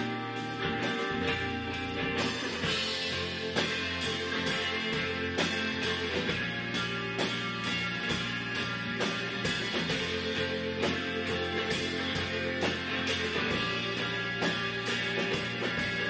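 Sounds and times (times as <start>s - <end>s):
drum kit beat: 0.0s - 16.0s
electric guitar: 0.0s - 16.0s
fretless electric bass: 0.0s - 16.0s.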